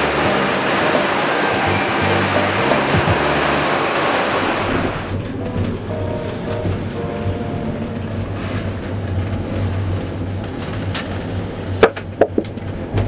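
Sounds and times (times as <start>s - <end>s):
vehicle rumble from inside: 0.0s - 13.0s.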